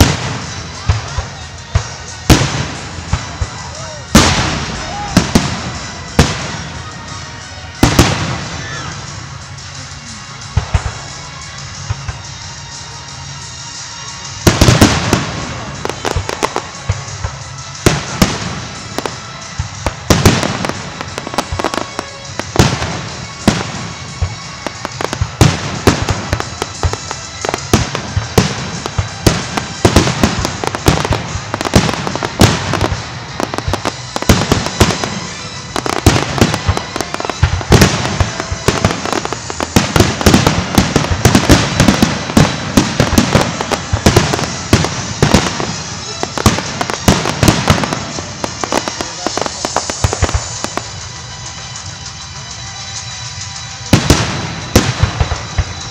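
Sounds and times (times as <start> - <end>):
firework bangs: 0.0 - 55.9
firework crackle: 0.0 - 55.9.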